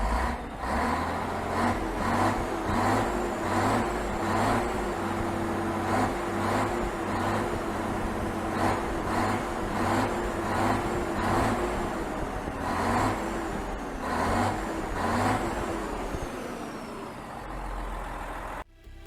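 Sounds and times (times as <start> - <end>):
diesel truck engine revving: 0.0 - 19.0.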